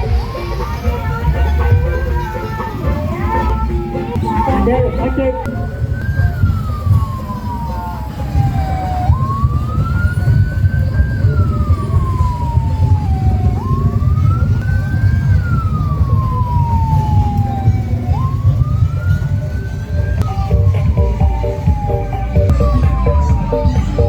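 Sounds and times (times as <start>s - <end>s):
heavy low rumble: 0.0s - 24.0s
siren wailing: 0.0s - 24.0s.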